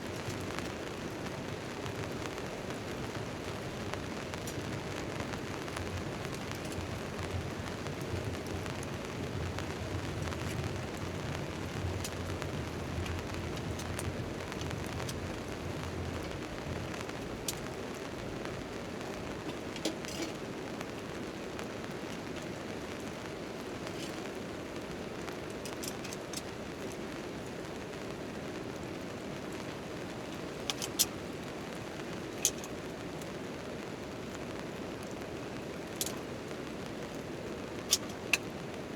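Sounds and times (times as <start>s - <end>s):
campfire crackling: 0.0s - 38.9s
rain on a tent tarp: 0.0s - 38.9s.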